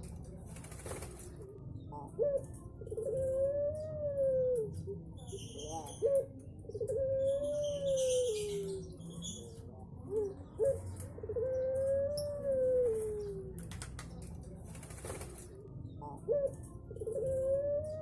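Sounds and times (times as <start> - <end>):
dove cooing: 0.9 - 13.7, 15.2 - 18.0.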